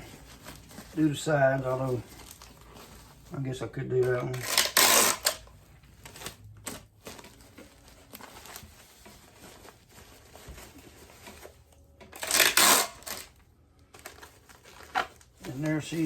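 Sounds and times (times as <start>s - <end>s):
wrapping material crinkling: 0.0s - 16.0s.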